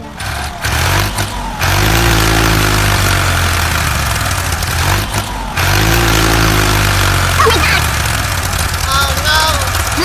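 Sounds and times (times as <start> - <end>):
heavy vehicle engine idling: 0.0 - 10.0.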